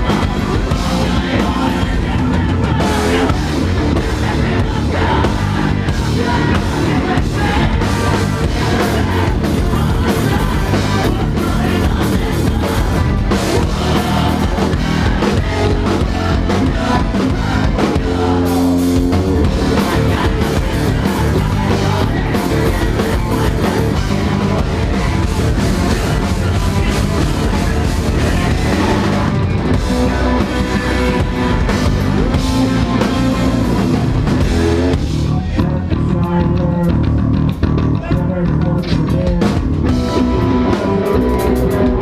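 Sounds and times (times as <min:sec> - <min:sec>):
person singing: 0:00.0 - 0:33.6, 0:34.4 - 0:37.1, 0:37.9 - 0:42.0
rock band playing live: 0:00.0 - 0:42.0.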